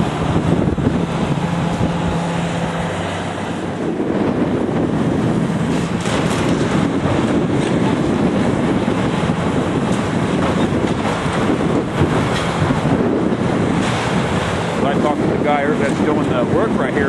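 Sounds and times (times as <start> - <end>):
heavy demolition machinery running: 0.0 - 17.0
wind buffeting microphone: 0.0 - 17.0.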